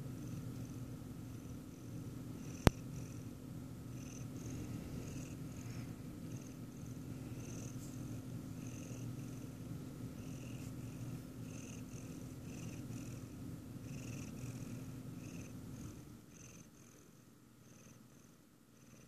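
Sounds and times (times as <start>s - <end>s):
cat purring: 0.2s - 19.0s.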